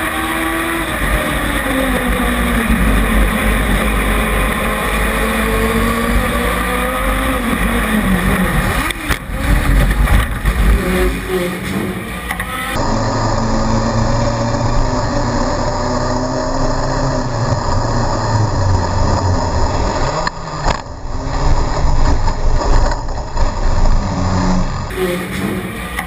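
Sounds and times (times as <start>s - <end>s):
race car engine droning: 0.0s - 26.0s.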